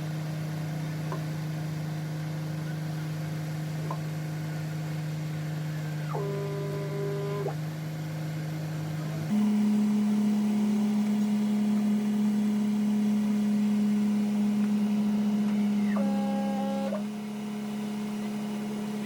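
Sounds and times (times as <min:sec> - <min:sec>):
machine motor humming: 0:02.2 - 0:19.0.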